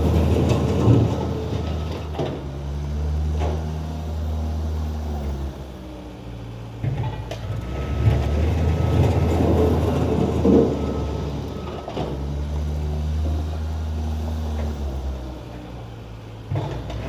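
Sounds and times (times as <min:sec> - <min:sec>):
skid steer engine running: 0:00.0 - 0:17.0.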